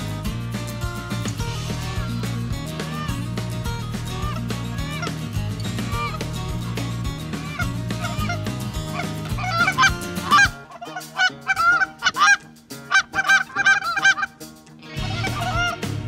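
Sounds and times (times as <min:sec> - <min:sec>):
background music: 0:00.0 - 0:16.0
geese honking: 0:01.3 - 0:16.0.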